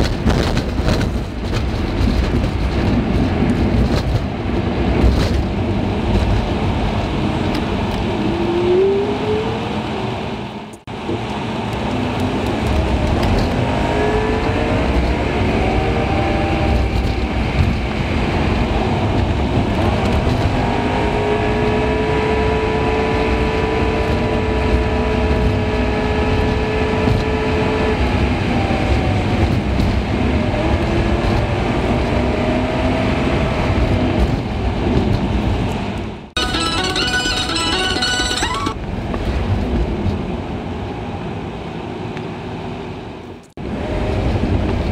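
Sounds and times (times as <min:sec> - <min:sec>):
road noise: 0:00.0 - 0:44.9.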